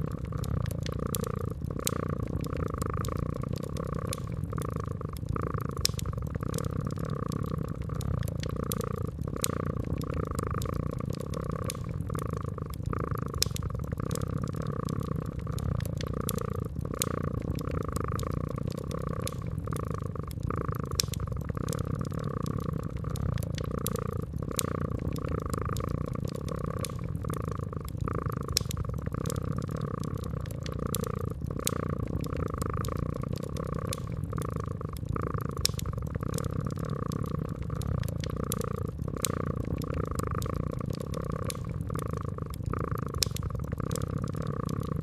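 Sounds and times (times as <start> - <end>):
cat purring: 0.0 - 45.0
wood fire crackling and popping: 0.0 - 45.0.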